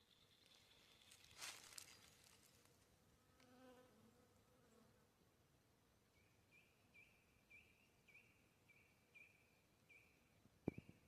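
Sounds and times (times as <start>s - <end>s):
quiet forest background: 0.0s - 11.0s.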